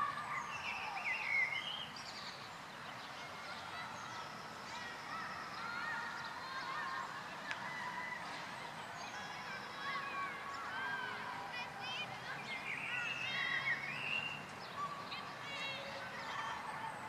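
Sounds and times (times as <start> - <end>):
small birds chirping and whistling: 0.2 - 11.2, 11.9 - 17.0.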